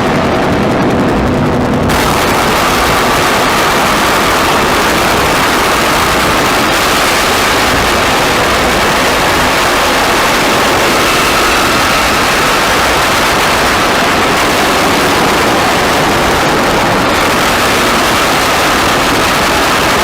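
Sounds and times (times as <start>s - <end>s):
faint steady whine: 0.0s - 20.0s
wall of hiss and rumble: 0.0s - 20.0s.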